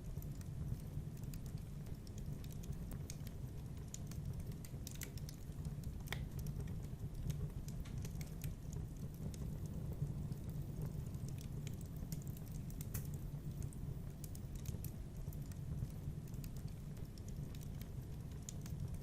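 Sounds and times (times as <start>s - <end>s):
fire flames rumbling: 0.0s - 19.0s
wood fire pops and snaps: 0.0s - 19.0s.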